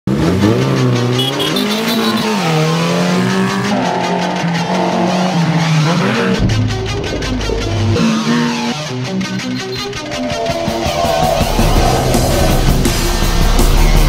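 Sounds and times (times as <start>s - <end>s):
off-road vehicle engine revving: 0.1s - 9.2s, 10.1s - 14.0s.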